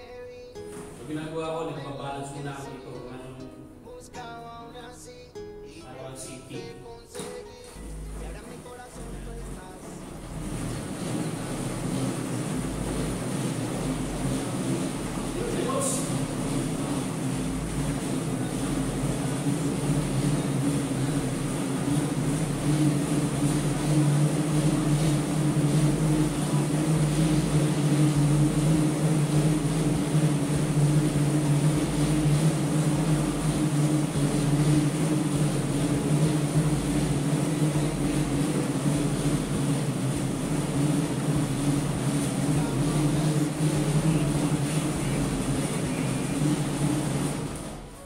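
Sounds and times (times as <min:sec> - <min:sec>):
bike tyre droning on rollers: 0:07.8 - 0:48.0.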